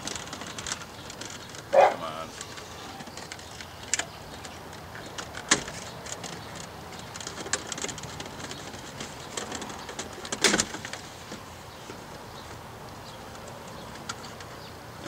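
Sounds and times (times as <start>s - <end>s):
plastic clicks and creaks: 0.0s - 1.7s, 2.3s - 14.7s.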